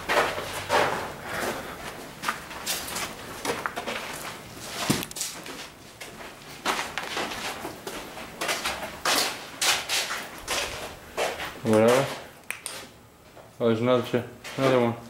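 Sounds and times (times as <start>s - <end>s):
footsteps crunching on rubble: 0.0s - 12.3s.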